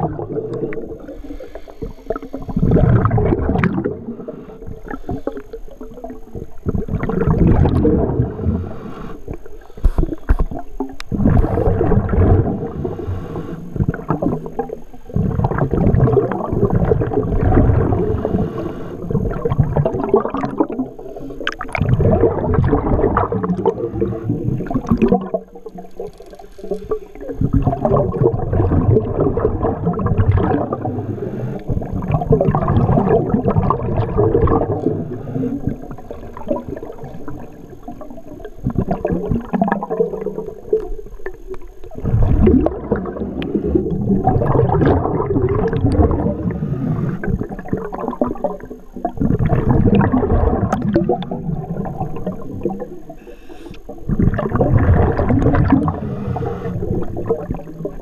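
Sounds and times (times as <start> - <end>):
underwater bubbles gurgling: 0.0 - 58.0.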